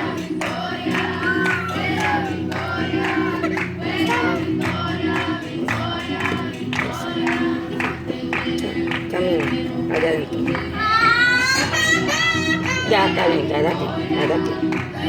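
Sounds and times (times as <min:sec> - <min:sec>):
instrumental backing with percussion: 0:00.0 - 0:12.9
voices singing together: 0:00.0 - 0:15.0.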